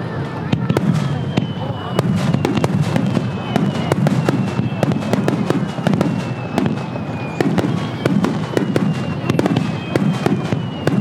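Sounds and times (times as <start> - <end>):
fireworks cracking: 0.0 - 11.0
whistling fireworks: 0.0 - 11.0.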